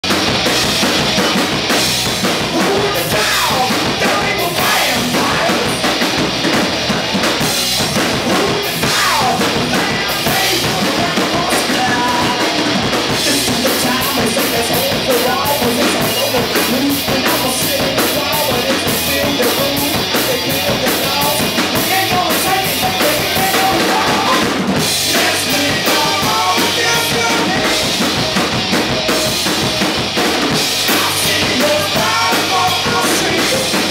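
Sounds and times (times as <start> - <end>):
bass guitar: 0.0 - 33.9
drum kit: 0.0 - 33.9
electric guitar: 0.0 - 33.9
singer's vocals: 2.2 - 7.0, 8.0 - 28.2, 30.5 - 33.9.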